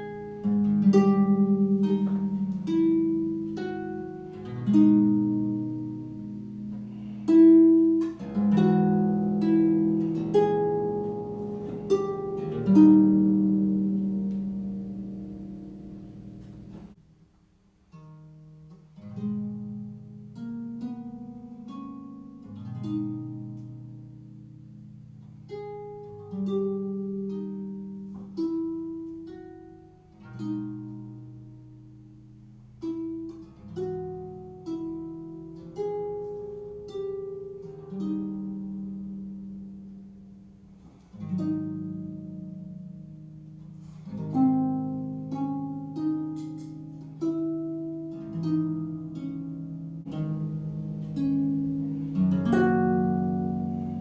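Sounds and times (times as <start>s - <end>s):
harp playing slow melody: 0.0s - 17.2s, 17.9s - 54.0s.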